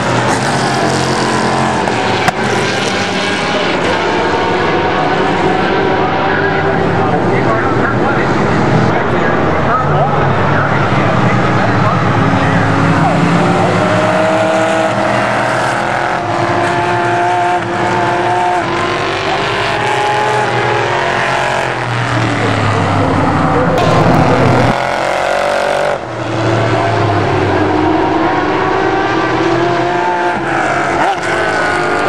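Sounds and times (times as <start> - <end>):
race cars passing at speed: 0.0 - 32.0.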